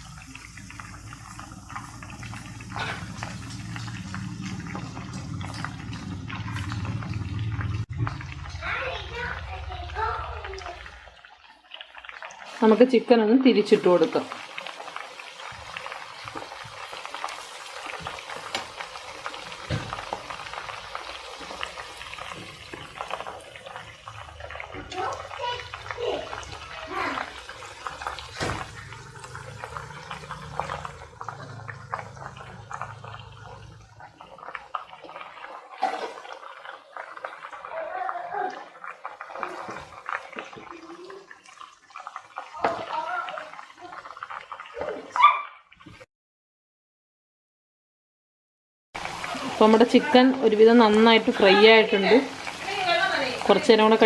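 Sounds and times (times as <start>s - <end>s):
oil sizzling with crackles: 0.0s - 46.1s, 49.0s - 54.0s.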